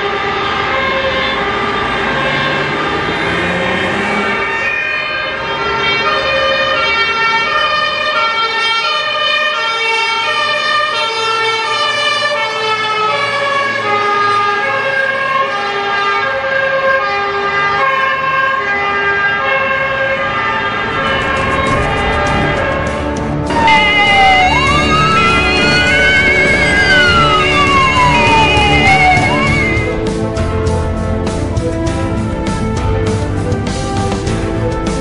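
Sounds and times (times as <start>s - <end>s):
trucks passing: 0.0s - 35.0s
two-tone fire engine sirens: 0.0s - 35.0s.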